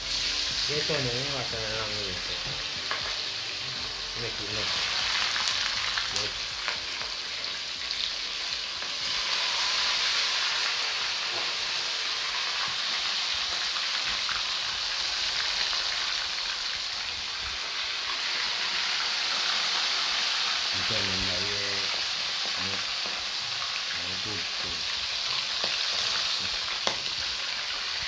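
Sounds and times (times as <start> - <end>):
fish deep-frying in oil: 0.0 - 28.0.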